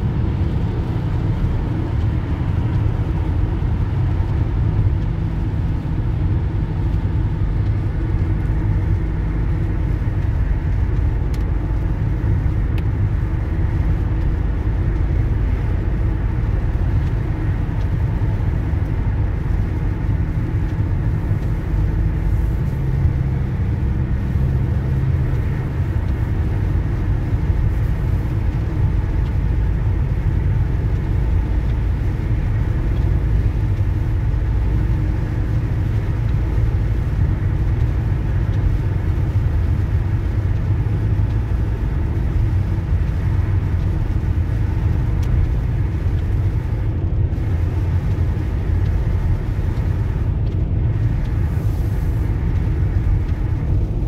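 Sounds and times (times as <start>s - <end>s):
car driving on wet road: 0.0s - 54.0s.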